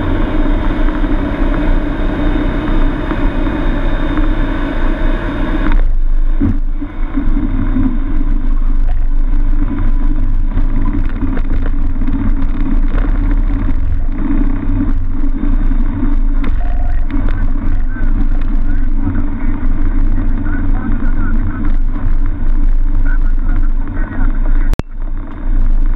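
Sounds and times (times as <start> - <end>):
airplane engine and propeller: 0.0 - 25.9
low rumble of landing roll: 0.0 - 25.9.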